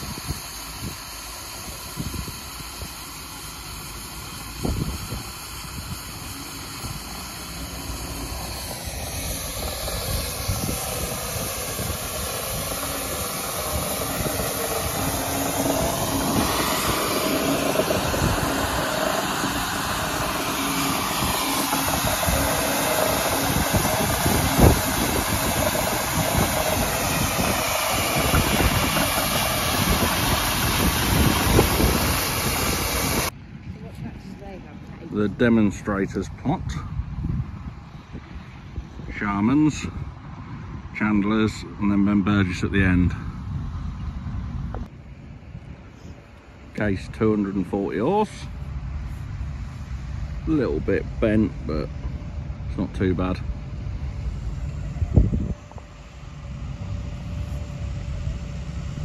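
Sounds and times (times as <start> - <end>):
steam engine hissing: 0.0 - 44.5, 45.1 - 59.0.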